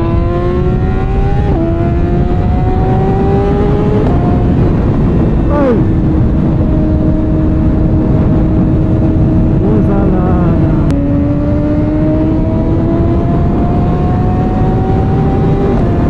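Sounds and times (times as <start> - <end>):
motorcycle engine: 0.0 - 16.0
wind noise: 0.0 - 16.0.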